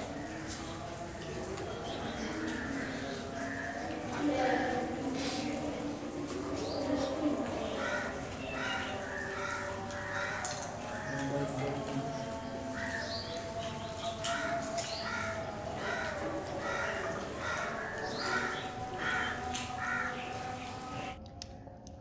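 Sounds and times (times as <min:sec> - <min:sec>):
crows cawing: 0:02.0 - 0:06.1, 0:07.3 - 0:21.2.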